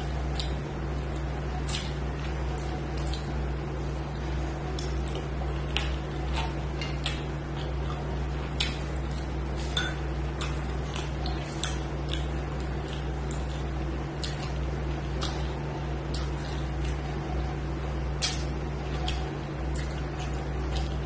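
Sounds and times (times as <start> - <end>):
fingers mixing food on plate: 0.0 - 21.0
steady low hum: 0.0 - 21.0.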